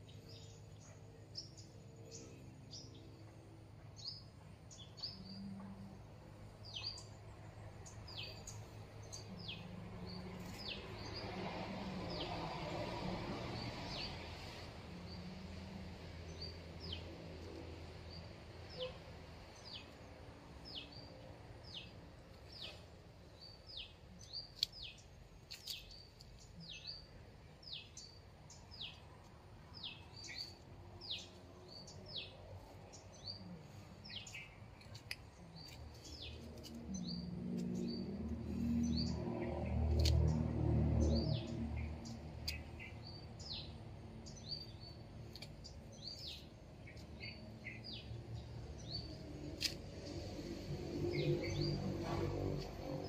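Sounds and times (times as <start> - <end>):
bird chirping: 0.0 - 12.4, 18.0 - 52.0
rustling leaves: 7.5 - 53.0.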